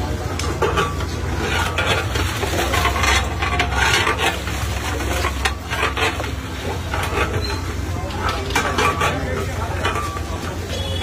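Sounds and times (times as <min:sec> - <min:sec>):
ladle scraping metal pot: 0:00.1 - 0:11.0.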